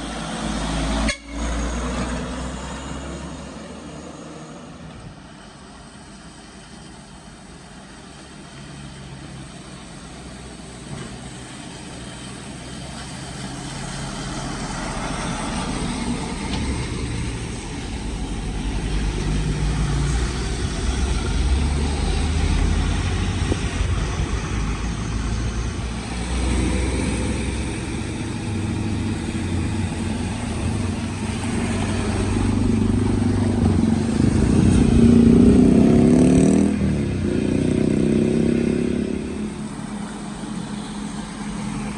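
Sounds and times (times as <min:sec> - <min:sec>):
large vehicle engine under load: 0:00.0 - 0:41.9.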